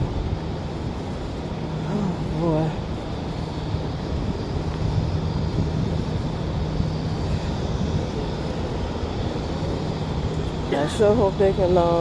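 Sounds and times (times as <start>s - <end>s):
constant hum: 0.0s - 12.0s
low mechanical rumble: 0.0s - 12.0s.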